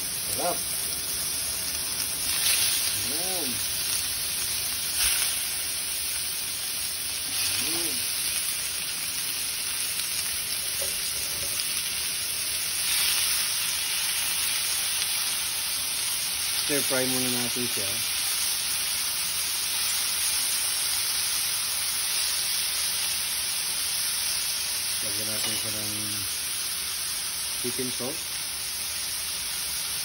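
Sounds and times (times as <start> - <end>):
pork sizzling in frying pan: 0.0 - 30.0.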